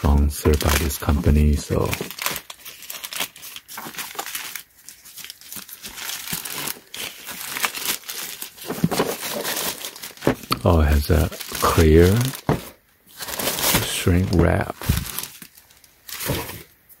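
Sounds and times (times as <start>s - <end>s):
plastic mailer bag crinkling: 0.0s - 16.7s.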